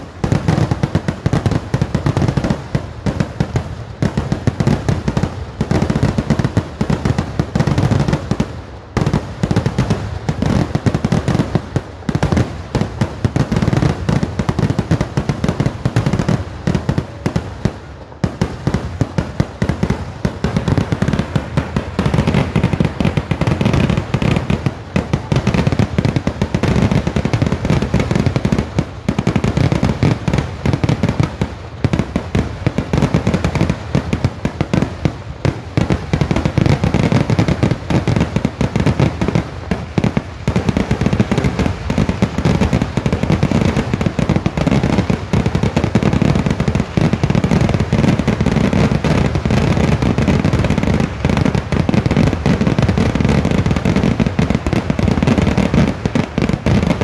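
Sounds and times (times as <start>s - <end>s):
fireworks exploding and crackling: 0.0s - 57.0s.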